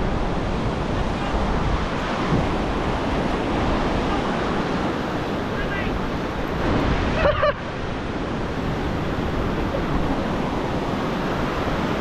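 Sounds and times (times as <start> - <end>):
ocean surf washing in: 0.0 - 12.0
wind on microphone: 0.0 - 12.0.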